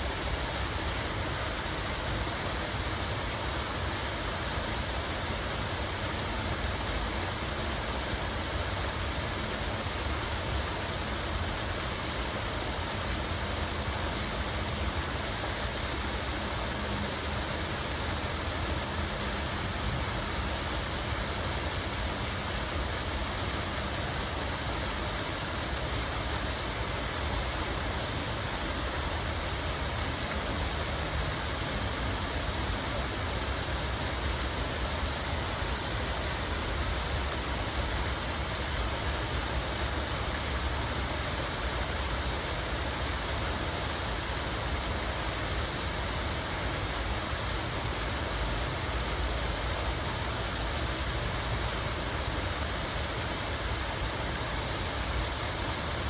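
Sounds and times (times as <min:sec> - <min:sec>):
water falling and running: 0:00.0 - 0:56.0.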